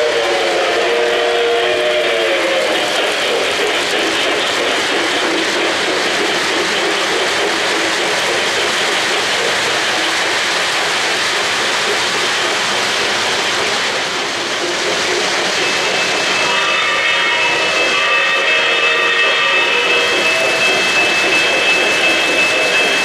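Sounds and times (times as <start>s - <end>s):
model train wheels rumbling: 0.0s - 23.0s.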